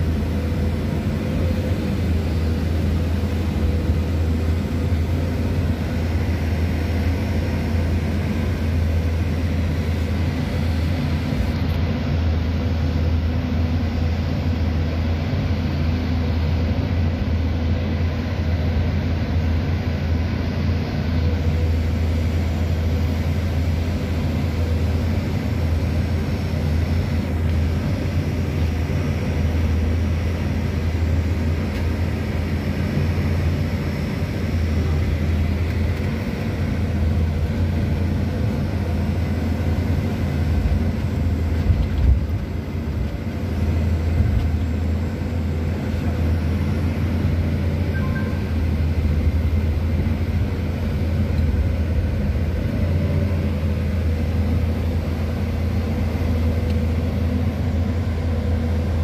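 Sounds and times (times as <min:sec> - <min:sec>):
excavator engine droning: 0:00.0 - 0:59.0.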